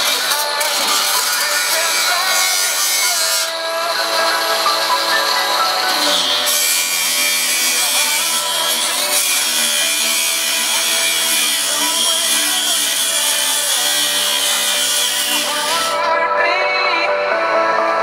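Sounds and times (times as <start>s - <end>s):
angle grinder cutting metal: 0.0s - 16.1s.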